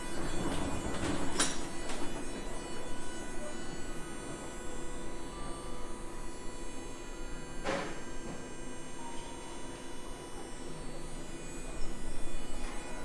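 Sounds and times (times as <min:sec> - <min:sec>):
electric tram hum and whine: 0:00.0 - 0:13.0.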